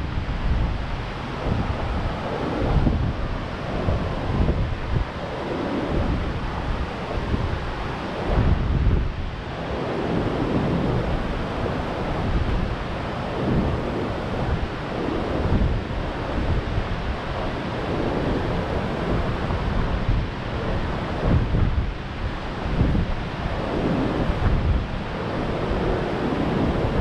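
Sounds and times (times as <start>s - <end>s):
wind gusts on microphone: 0.0s - 27.0s.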